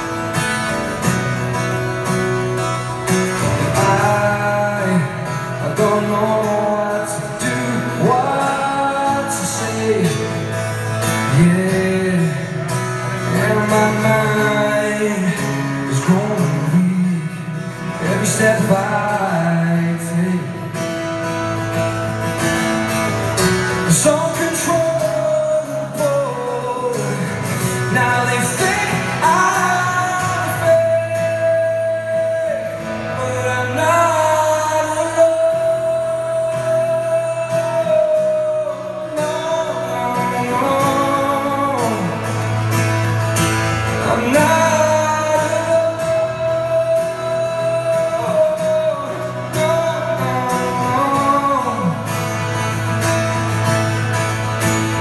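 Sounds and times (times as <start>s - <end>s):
man singing slow song: 0.0s - 22.0s, 22.8s - 54.0s
acoustic guitar strumming: 0.0s - 55.0s.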